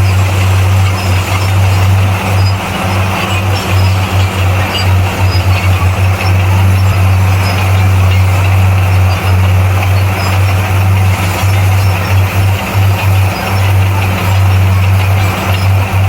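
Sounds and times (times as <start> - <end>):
heavy diesel engine drone: 0.0 - 16.0.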